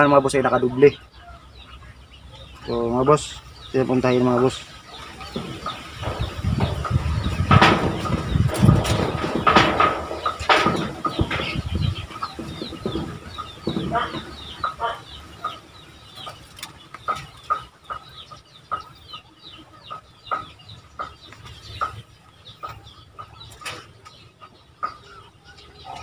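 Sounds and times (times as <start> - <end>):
poultry clucks: 0.0 - 26.0.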